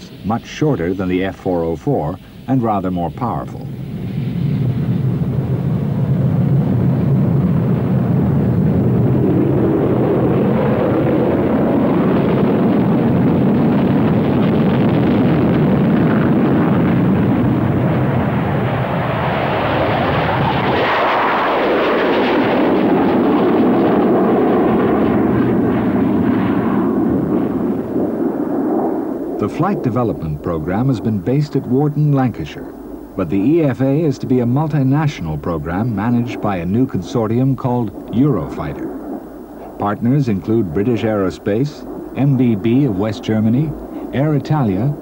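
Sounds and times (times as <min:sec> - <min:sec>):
jet engines at full power: 0:00.0 - 0:45.0.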